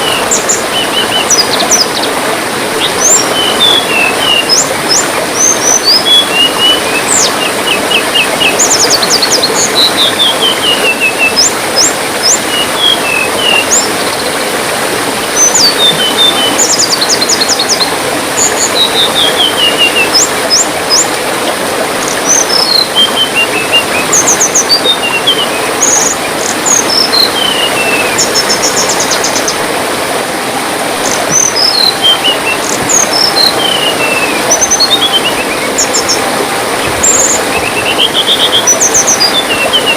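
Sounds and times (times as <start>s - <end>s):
songbird singing: 0.0s - 39.9s
trickling water: 0.0s - 39.9s.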